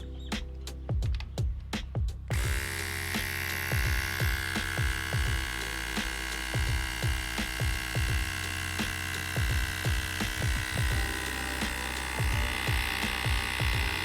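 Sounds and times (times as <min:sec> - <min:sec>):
background music with steady beat: 0:00.0 - 0:14.0
electric tyre compressor humming: 0:02.3 - 0:14.0.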